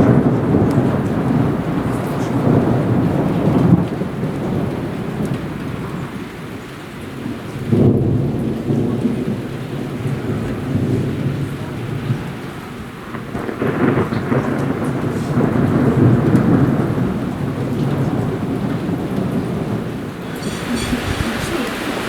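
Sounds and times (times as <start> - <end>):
thunder rumbling: 0.0 - 6.6, 7.2 - 22.0
heavy rain: 0.0 - 22.0.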